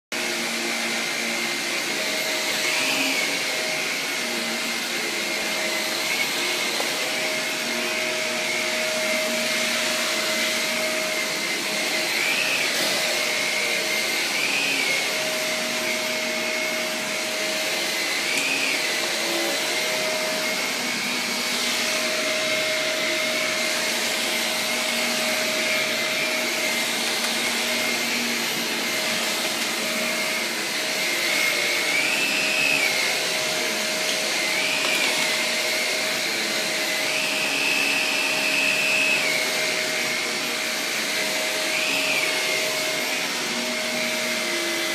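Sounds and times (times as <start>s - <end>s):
vacuum cleaner running: 0.1s - 44.9s.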